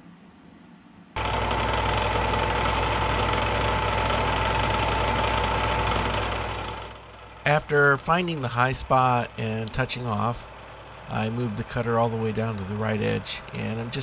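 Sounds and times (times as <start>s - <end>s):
milling machine cutting metal: 1.2s - 14.0s.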